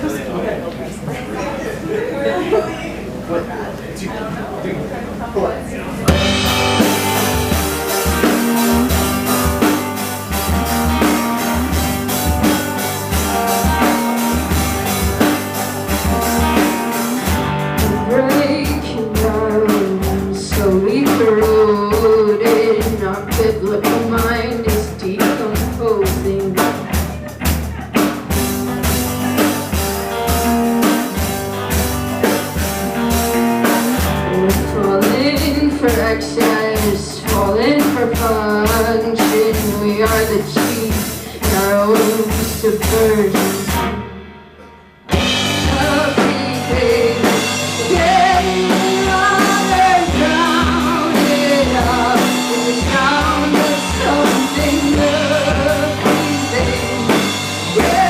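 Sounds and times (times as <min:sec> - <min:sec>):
bass: 0:05.0 - 0:44.3, 0:45.1 - 0:58.0
drum kit: 0:05.9 - 0:58.0.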